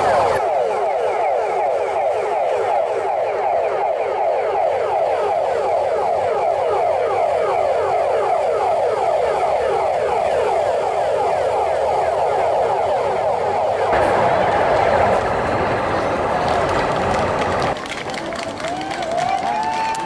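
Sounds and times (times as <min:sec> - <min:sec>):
police motorcycle sirens yelping: 0:00.0 - 0:20.0.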